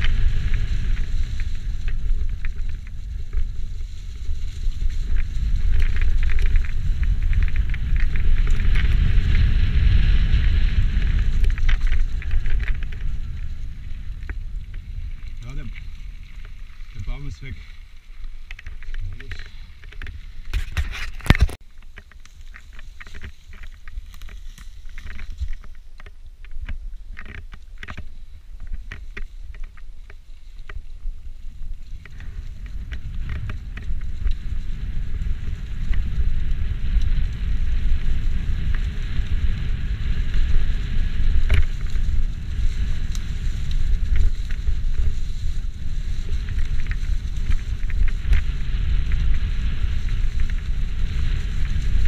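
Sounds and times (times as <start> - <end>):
bicycle tyre noise: 0.0 - 52.0
bike rattling over rough ground: 0.0 - 52.0
wind on microphone: 0.0 - 52.0.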